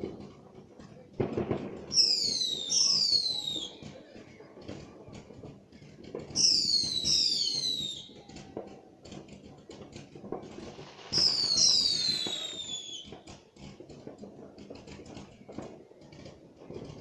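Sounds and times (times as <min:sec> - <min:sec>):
crackling pops: 0:00.0 - 0:17.0
whistling fireworks: 0:00.0 - 0:17.0.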